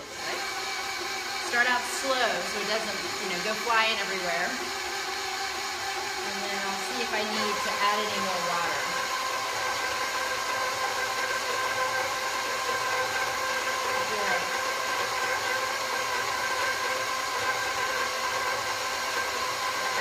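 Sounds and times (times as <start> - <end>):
stand mixer motor whine: 0.0 - 20.0.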